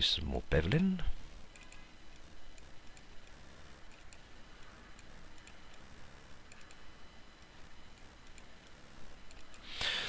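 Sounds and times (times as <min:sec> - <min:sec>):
low steady hiss: 0:00.0 - 0:10.0
computer mouse clicks: 0:01.5 - 0:09.7.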